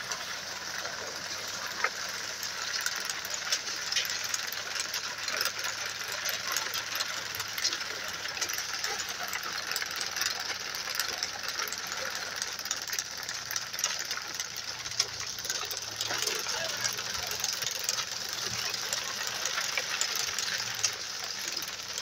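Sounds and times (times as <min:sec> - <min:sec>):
vehicle engine running low: 0:00.0 - 0:22.0.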